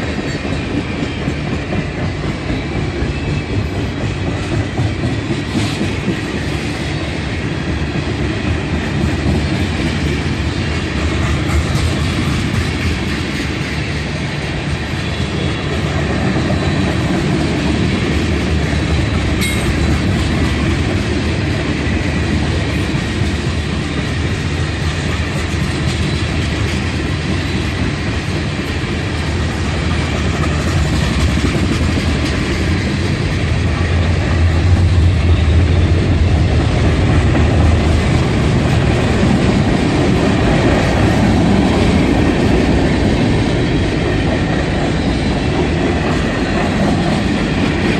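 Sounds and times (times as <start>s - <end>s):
train wheels clacking over rails: 0.0s - 47.9s.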